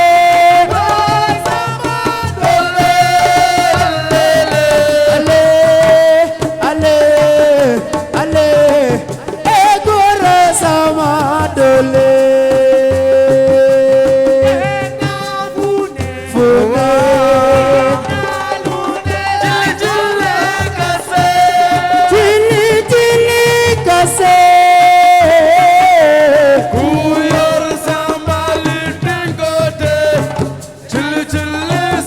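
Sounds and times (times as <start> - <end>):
hand drum percussion: 0.0 - 32.0.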